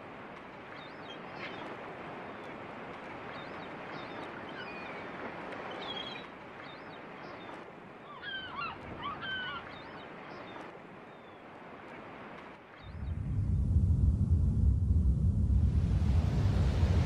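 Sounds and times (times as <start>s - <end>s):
surf: 0.0s - 17.0s
wind: 0.0s - 17.0s.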